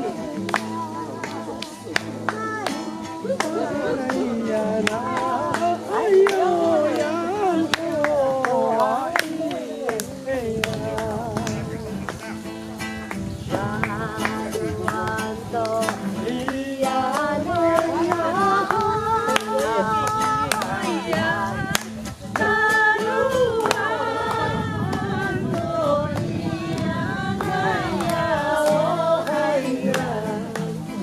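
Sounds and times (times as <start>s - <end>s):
group of people singing: 0.0s - 31.0s.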